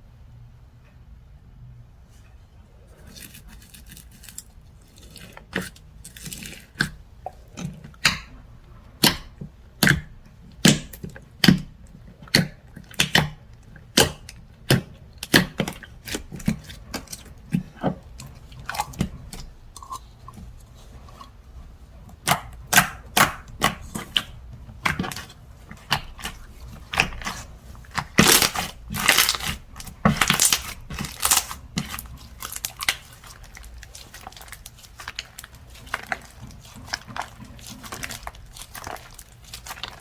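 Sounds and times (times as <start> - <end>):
slime squishing: 2.7 - 40.0.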